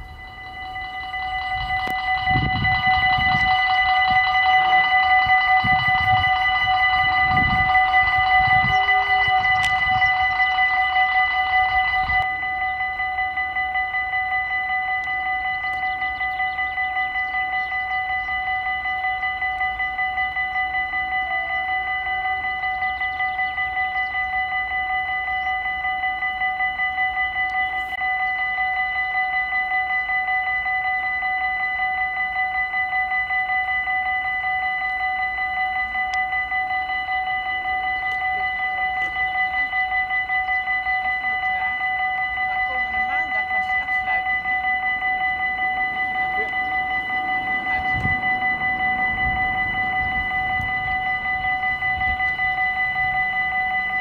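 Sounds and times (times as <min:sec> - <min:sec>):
level crossing warning bell: 0:00.0 - 0:54.0.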